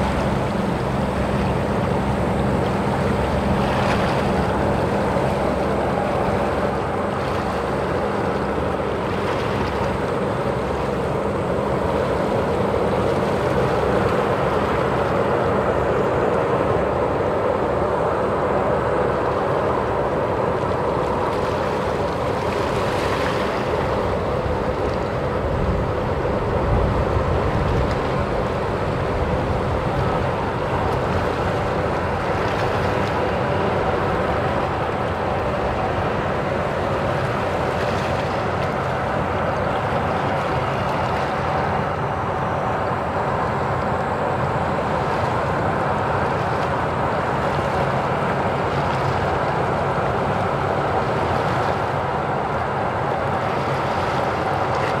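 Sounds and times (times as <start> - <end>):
bow wave rushing along hull: 0.0 - 55.0
ship machinery hum: 0.0 - 55.0.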